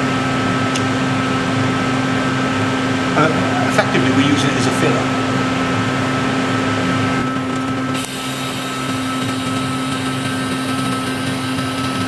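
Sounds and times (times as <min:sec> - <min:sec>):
welder humming and hissing: 0:00.0 - 0:12.0.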